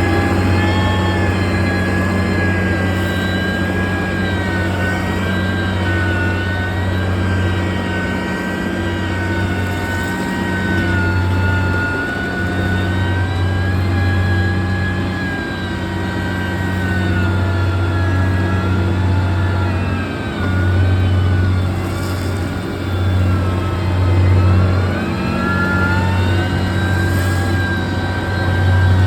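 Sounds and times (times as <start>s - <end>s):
heavy machine engine humming: 0.0s - 29.0s.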